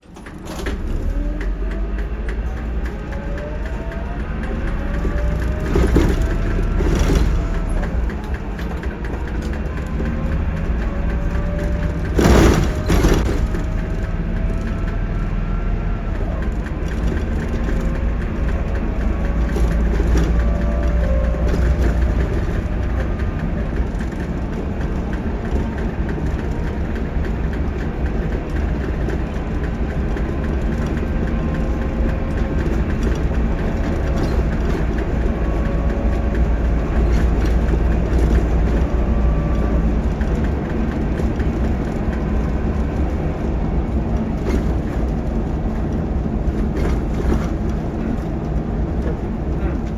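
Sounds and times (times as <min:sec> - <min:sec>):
bus engine rumble: 0:00.0 - 0:49.9.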